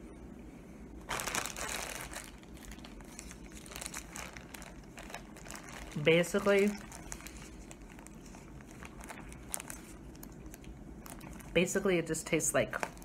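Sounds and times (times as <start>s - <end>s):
candy wrapper crinkling: 1.0s - 11.8s.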